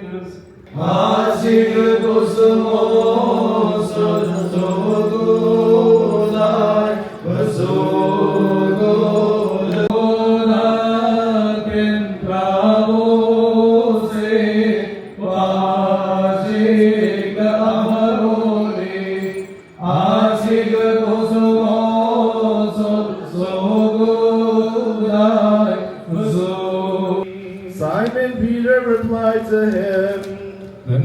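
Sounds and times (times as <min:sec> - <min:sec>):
man chanting a hymn: 0:00.0 - 0:31.0.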